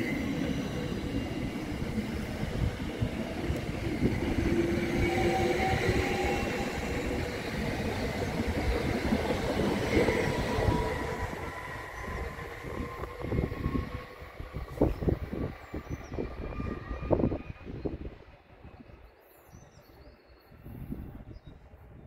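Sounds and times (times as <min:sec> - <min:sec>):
train wheels on rails: 0:00.0 - 0:17.8.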